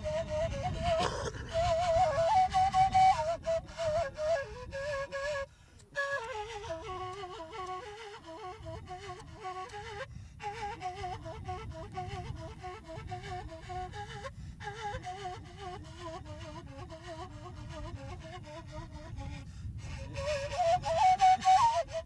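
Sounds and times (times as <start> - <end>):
breathy flute melody: 0.0 - 22.0.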